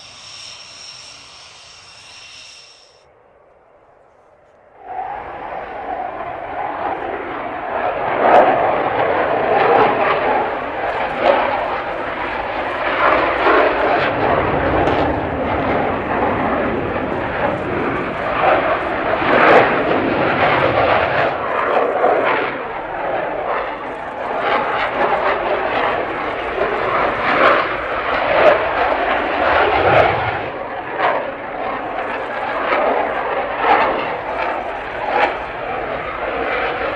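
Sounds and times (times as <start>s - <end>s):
jet engine noise: 0.0s - 36.9s.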